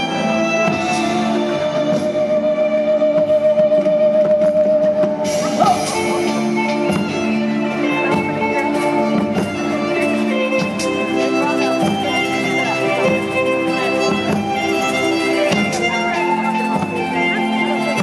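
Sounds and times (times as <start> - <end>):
string-like backing chords: 0.0 - 18.0
wooden flute melody: 0.0 - 18.0.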